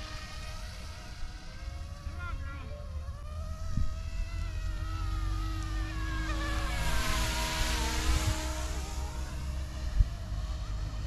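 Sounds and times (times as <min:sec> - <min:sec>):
rc helicopter rotor whine: 0:00.0 - 0:11.0.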